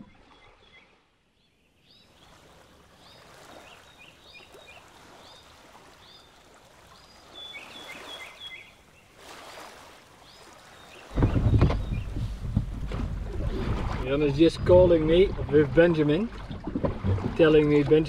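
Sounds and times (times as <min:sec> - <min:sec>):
birds chirping: 0:00.0 - 0:09.2, 0:10.2 - 0:16.6
gently lapping water: 0:00.0 - 0:18.0.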